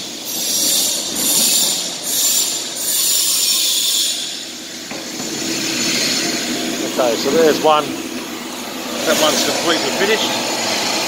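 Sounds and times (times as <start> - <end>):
power tools hissing: 0.0 - 11.0.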